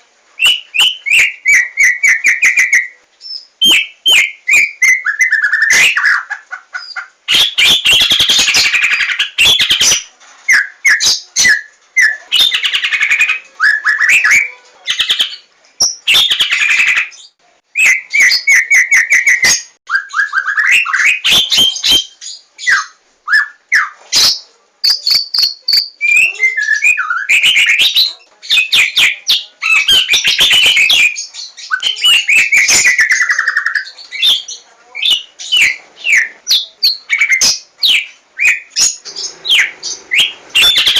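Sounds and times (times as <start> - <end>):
bird singing varied song: 0.4 - 40.9.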